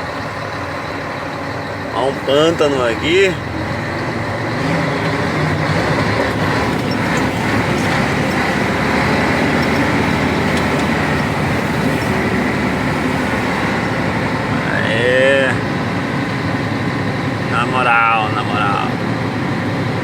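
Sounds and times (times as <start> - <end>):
truck diesel engine under load: 0.0 - 20.0.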